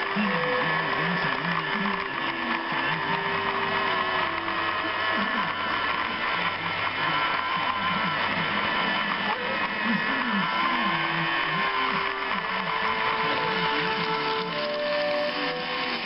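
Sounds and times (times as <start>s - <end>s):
model train whirring and rattling: 0.0s - 16.0s.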